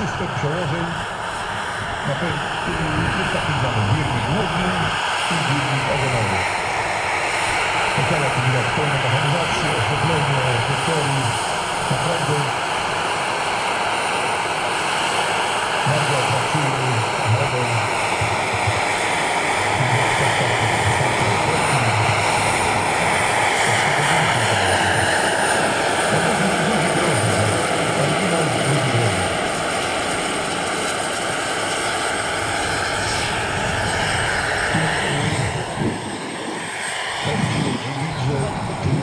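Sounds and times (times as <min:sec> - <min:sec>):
model helicopter turbine whine: 0:00.0 - 0:39.0
rotor noise: 0:00.0 - 0:39.0.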